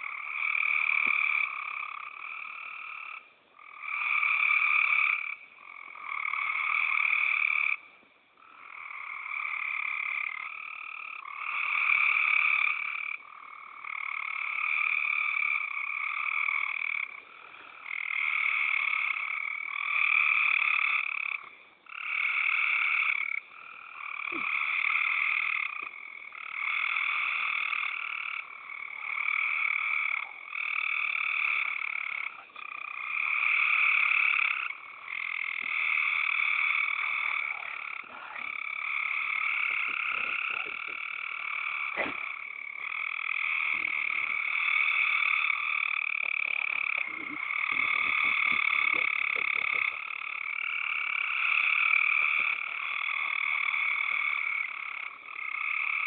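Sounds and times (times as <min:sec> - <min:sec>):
frogs calling: 0:00.0 - 0:56.0.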